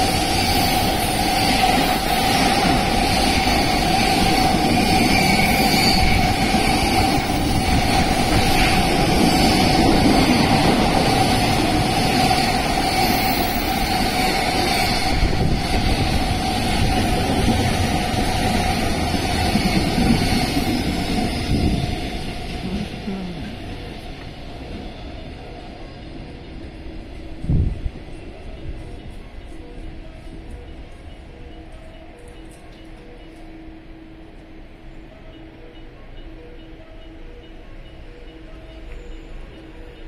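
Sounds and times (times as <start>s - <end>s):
train wheels rushing on rail: 0.0s - 33.4s.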